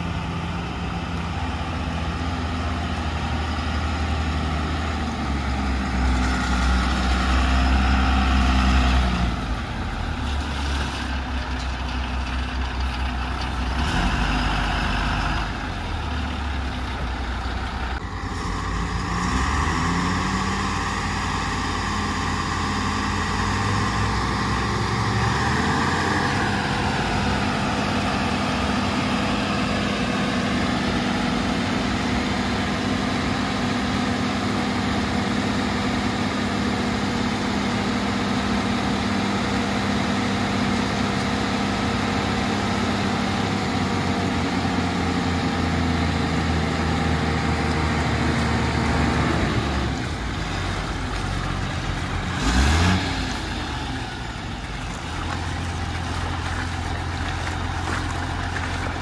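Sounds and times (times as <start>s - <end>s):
diesel truck engines running: 0.0s - 59.0s.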